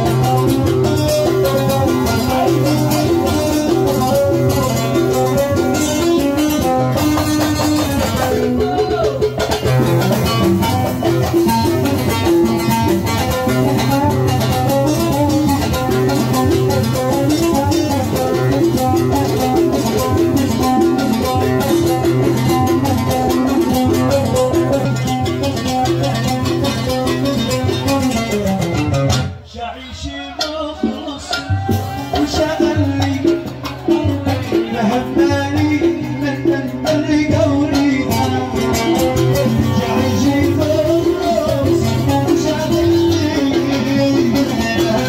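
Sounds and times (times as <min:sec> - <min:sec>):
instrumental music over loudspeakers: 0:00.0 - 0:45.0.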